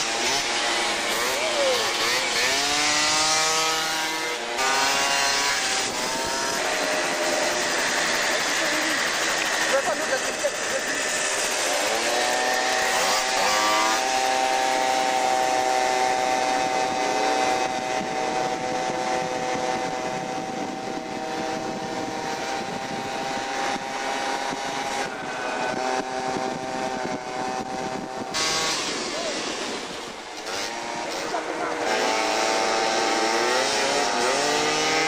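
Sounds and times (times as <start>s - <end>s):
scooter engine revving: 0.0s - 35.0s
wind on microphone: 3.0s - 35.0s.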